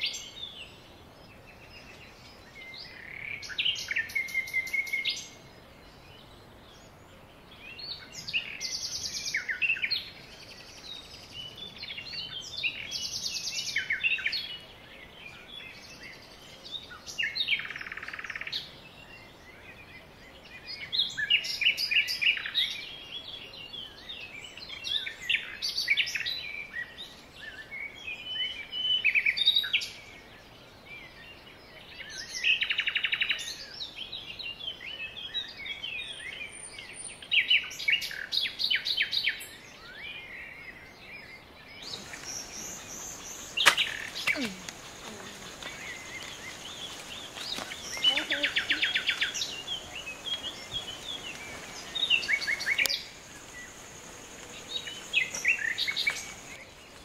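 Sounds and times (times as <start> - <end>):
birds chirping and singing: 0.0 - 57.0.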